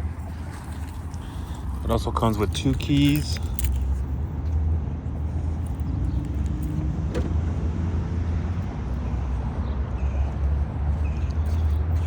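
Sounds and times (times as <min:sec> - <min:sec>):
vehicle engine idling: 0:00.3 - 0:12.0.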